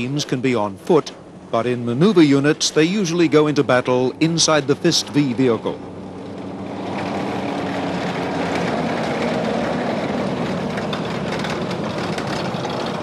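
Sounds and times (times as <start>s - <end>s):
diesel engine running: 0.0s - 13.0s
steel tracks clattering: 0.0s - 13.0s.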